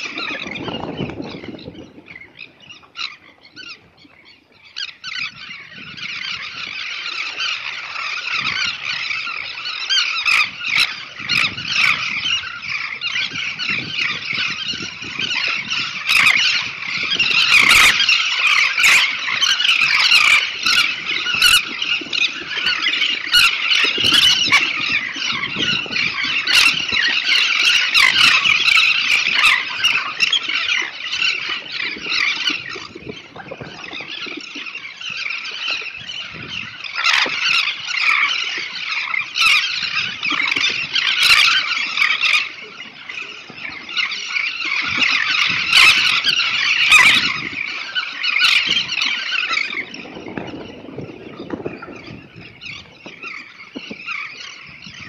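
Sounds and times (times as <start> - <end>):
terns calling in dense chorus: 0.0 - 55.0.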